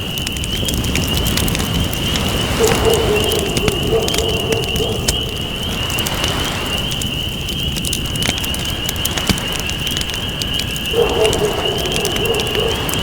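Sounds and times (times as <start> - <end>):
campfire crackling and popping: 0.0 - 13.0
ocean waves: 0.3 - 13.0.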